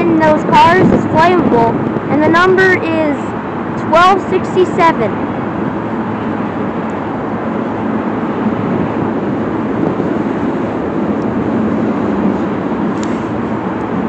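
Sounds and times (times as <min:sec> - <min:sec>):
freight train rumbling over bridge: 0:00.0 - 0:14.0.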